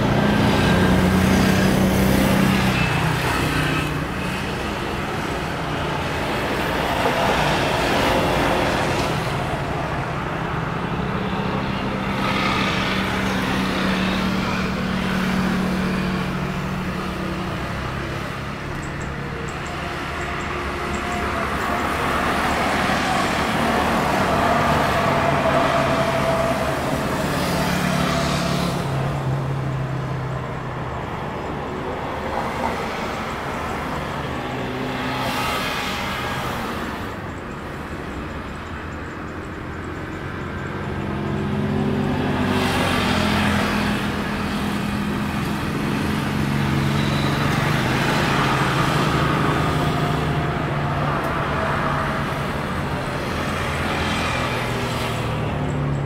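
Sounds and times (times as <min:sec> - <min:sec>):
passing road traffic: 0:00.0 - 0:56.0.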